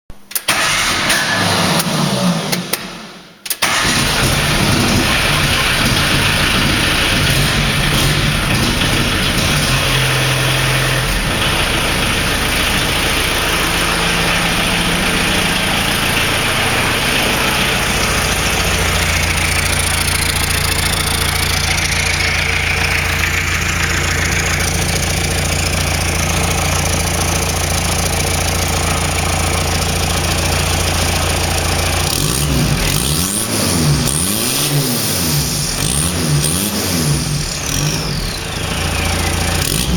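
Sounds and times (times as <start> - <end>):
off-road vehicle engine revving: 3.6 - 39.9.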